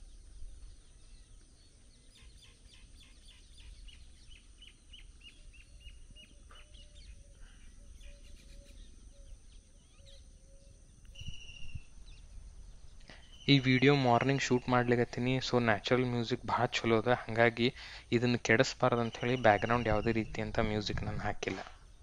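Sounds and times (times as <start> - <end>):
scattered bird calls: 0.0 - 22.0.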